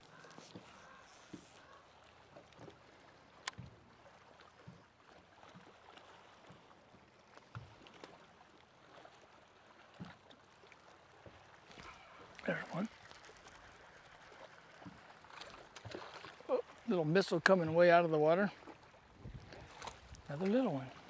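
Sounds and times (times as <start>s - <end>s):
water lapping against hull: 0.0s - 21.0s.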